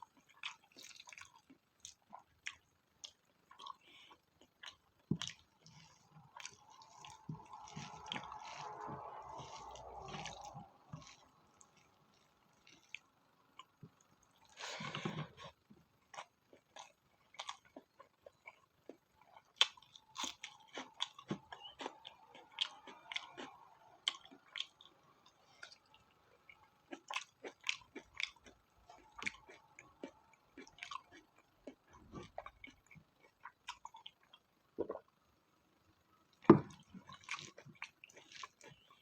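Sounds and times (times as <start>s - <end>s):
close chewing smacks and crunches: 0.0s - 35.1s, 36.3s - 39.0s.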